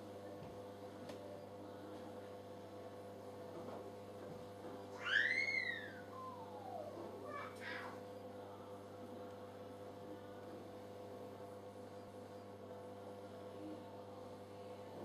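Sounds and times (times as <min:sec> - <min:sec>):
faint electrical mains hum: 0:00.0 - 0:15.0.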